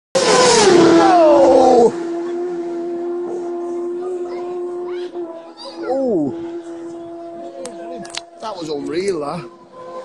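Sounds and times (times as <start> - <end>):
racing motorcycle at full throttle: 0.2 - 10.0.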